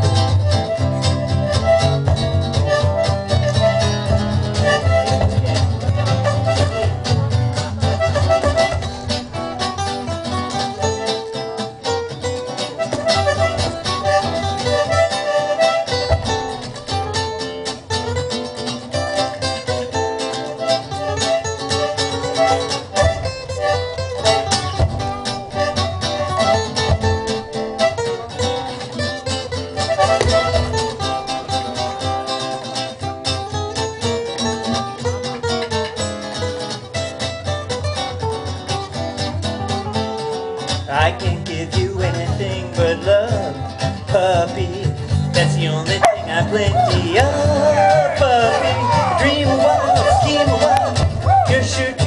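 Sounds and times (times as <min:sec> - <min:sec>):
accordion notes: 0:00.0 - 0:52.0
acoustic guitars strumming: 0:00.0 - 0:52.0.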